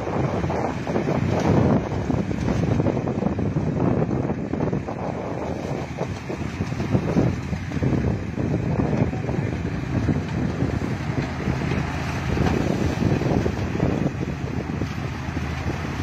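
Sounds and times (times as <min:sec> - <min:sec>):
harvester engine rumble: 0:00.0 - 0:16.0
wind buffeting microphone: 0:00.0 - 0:16.0.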